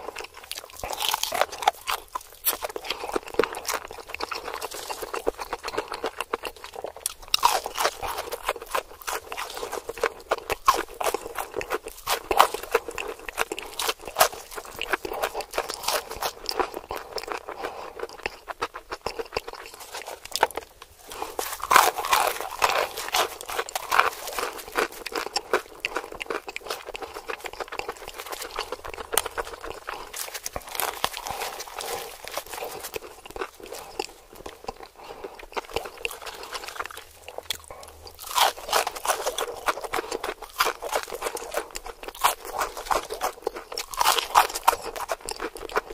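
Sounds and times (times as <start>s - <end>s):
crunching fried chicken: 0.0s - 45.9s.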